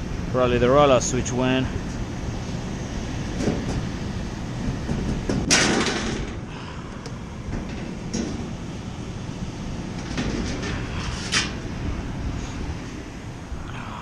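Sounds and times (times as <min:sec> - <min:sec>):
hvac equipment rumbling: 0:00.0 - 0:14.0.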